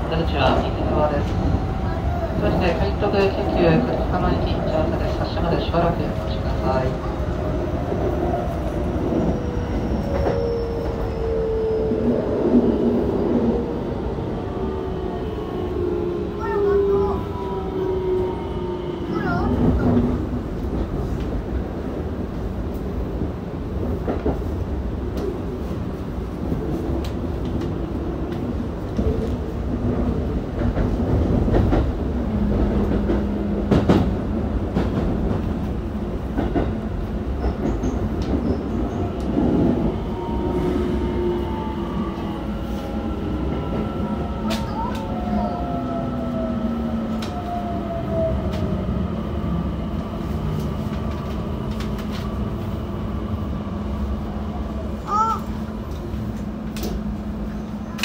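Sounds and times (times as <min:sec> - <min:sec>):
electric train low hum: 0:00.0 - 0:58.0.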